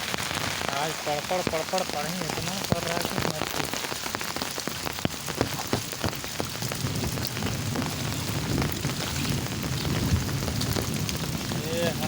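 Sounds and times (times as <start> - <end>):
heavy rain pouring: 0.0 - 12.0
raindrops hitting hard surfaces: 0.0 - 12.0.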